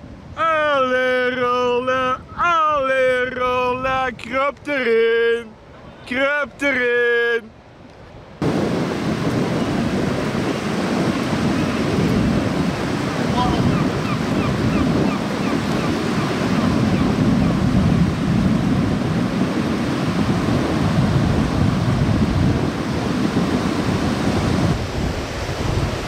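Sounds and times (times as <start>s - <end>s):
waves breaking on sandy beach: 0.0s - 26.0s.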